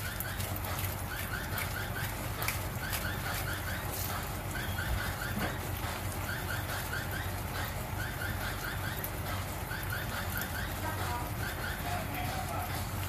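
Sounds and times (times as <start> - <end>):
sauce bubbling in a frying pan: 0.0 - 13.0.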